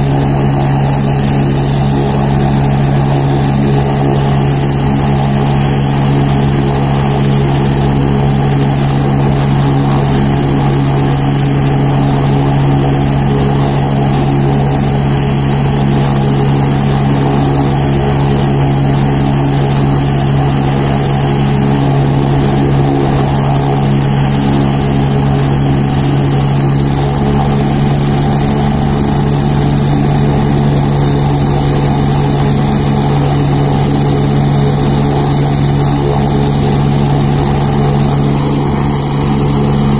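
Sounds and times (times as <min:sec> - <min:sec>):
helicopter engine and rotor drone: 0:00.0 - 0:39.9
high turbine whine: 0:00.0 - 0:39.9.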